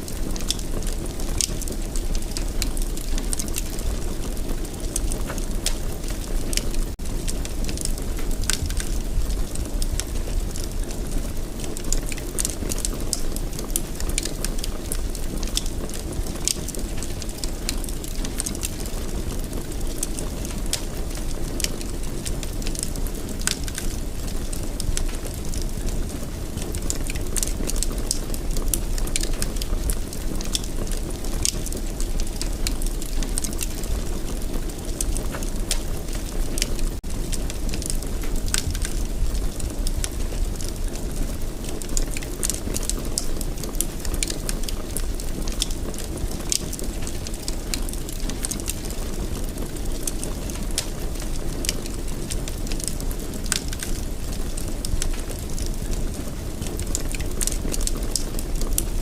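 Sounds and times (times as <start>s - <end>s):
fire crackling and popping: 0.0s - 59.0s
fire low rumble: 0.0s - 59.0s.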